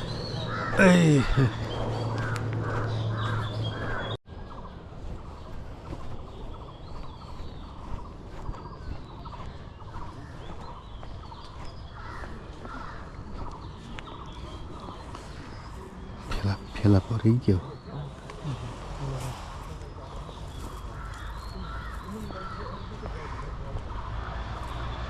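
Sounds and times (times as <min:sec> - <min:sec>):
birds chirping and whistling: 0:00.0 - 0:23.1.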